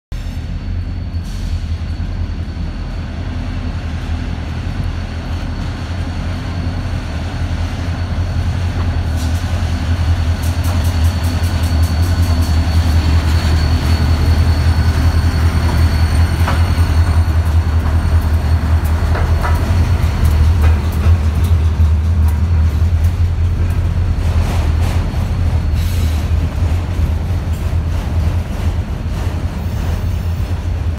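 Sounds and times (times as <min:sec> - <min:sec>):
diesel locomotive engine drone: 0:00.1 - 0:30.9.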